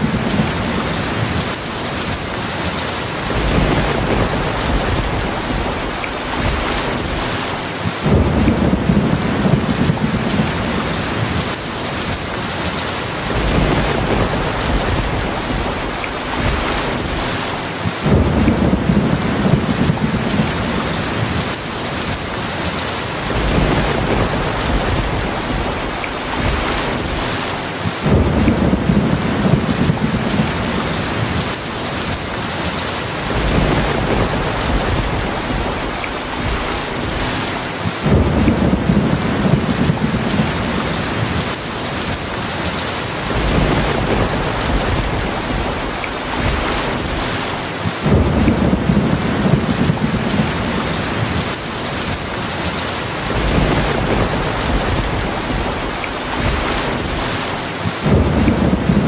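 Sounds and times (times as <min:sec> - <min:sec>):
low thunder rumbles: 0:00.0 - 0:59.0
steady rain: 0:00.0 - 0:59.0.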